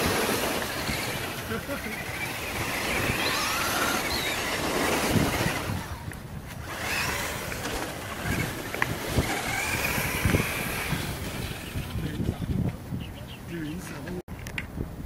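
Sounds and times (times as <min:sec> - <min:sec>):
toy car motors whining: 0:00.0 - 0:12.5.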